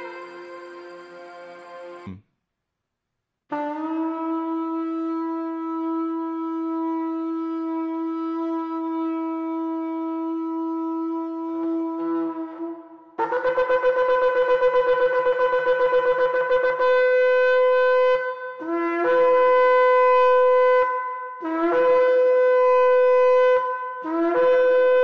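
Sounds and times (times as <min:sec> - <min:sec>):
shofar blast: 0:03.5 - 0:25.0.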